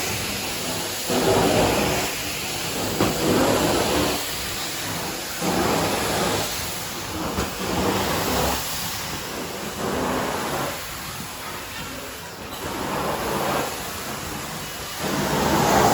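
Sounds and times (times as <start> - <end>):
carpet cleaning machine running: 0.0 - 15.9.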